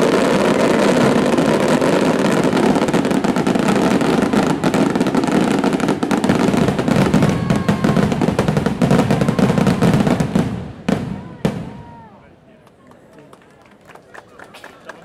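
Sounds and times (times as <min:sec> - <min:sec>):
firework bangs: 0:00.0 - 0:12.2.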